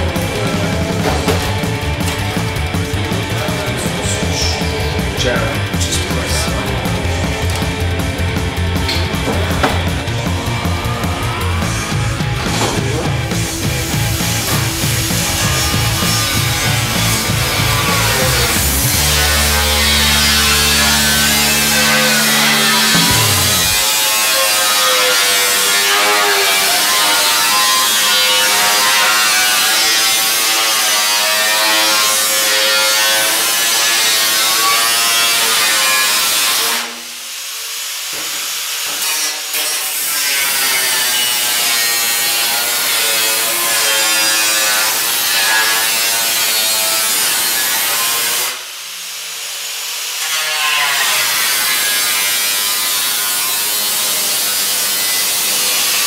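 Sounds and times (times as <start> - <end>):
angle grinder cutting steel: 0.0 - 56.0.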